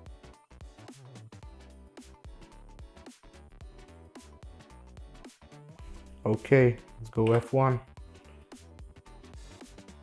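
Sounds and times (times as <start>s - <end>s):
quiet background music with beat: 0.0s - 10.0s.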